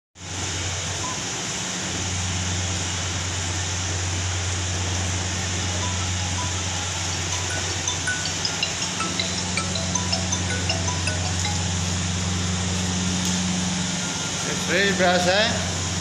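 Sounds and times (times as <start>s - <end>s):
machinery hum: 0.2s - 16.0s.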